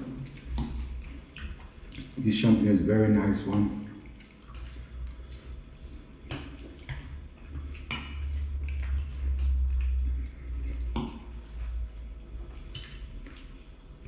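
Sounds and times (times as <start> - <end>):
wet chewing: 0.0 - 2.2, 3.4 - 14.0.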